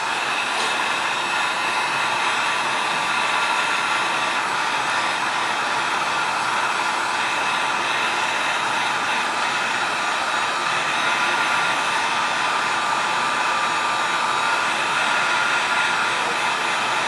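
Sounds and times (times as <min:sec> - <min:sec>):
hot-air blower running: 0:00.0 - 0:17.0.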